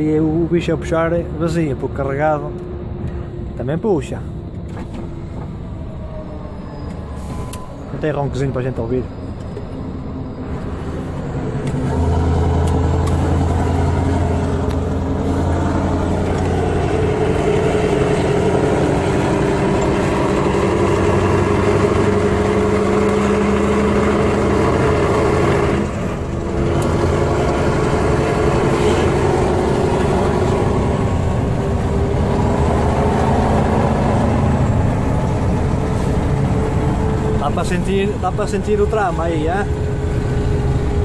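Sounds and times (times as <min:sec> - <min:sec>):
diesel truck engine under load: 0:00.0 - 0:41.0.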